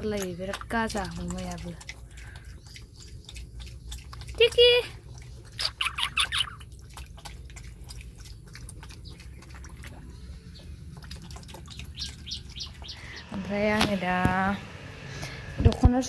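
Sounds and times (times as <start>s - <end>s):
pig slurping and chomping feed: 0.0s - 16.0s.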